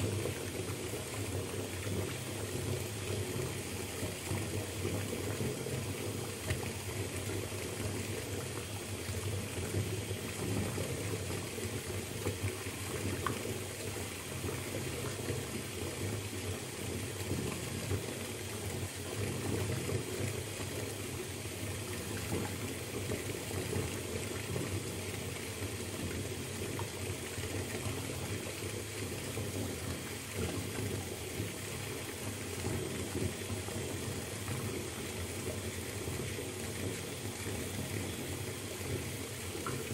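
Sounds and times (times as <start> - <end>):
water pouring into a bathtub: 0.0 - 39.9.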